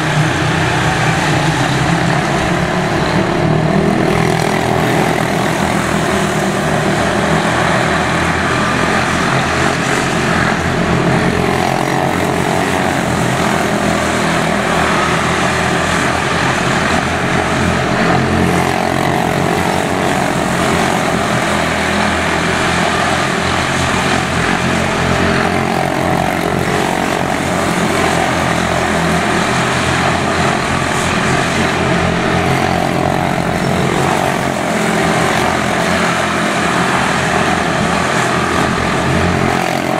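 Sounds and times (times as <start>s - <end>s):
small race car engines buzzing: 0.0s - 39.9s.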